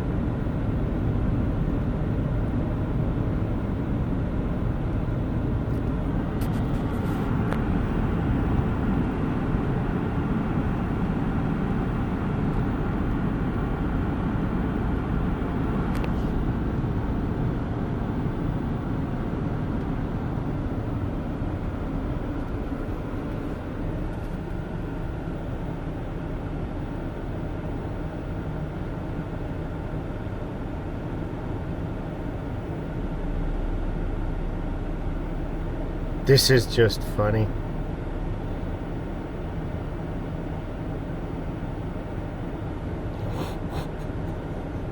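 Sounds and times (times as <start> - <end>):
vehicle engine and road noise: 0.0 - 44.9.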